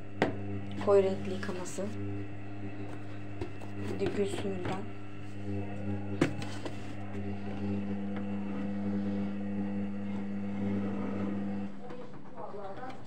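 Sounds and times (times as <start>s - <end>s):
washing machine electrical hum: 0.0s - 13.0s.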